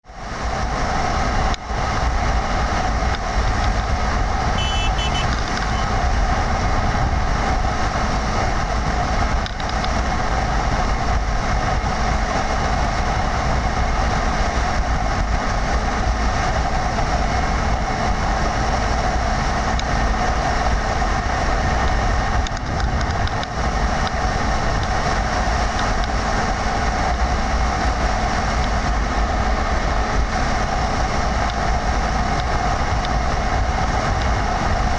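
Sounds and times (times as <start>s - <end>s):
vehicle moving at speed: 0.0s - 34.9s.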